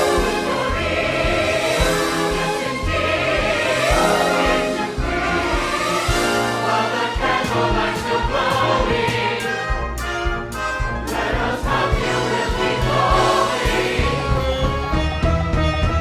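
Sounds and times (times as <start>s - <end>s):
choir singing over a beat: 0.0s - 15.0s.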